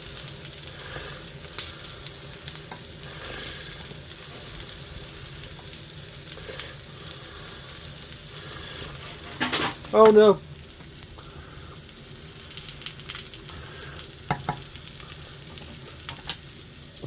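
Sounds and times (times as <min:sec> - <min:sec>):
steak sizzling in a frying pan: 0:00.0 - 0:17.0.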